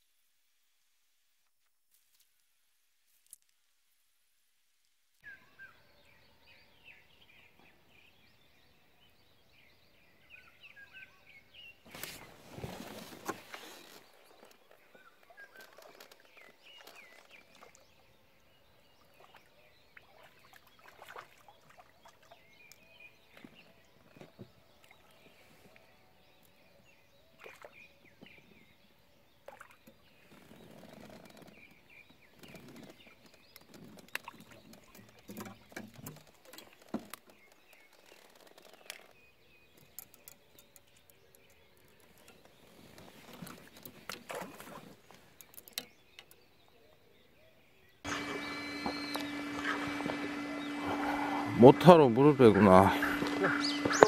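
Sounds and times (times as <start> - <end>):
faint bird chirps: 5.2 - 54.0.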